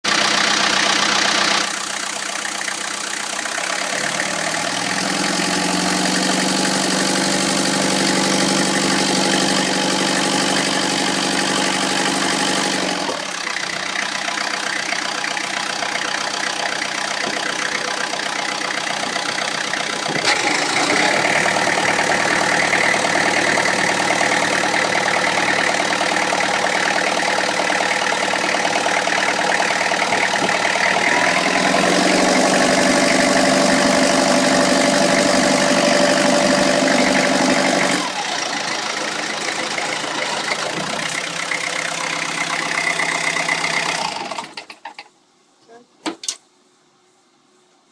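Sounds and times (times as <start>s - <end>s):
diesel engine idling: 0.0s - 44.6s.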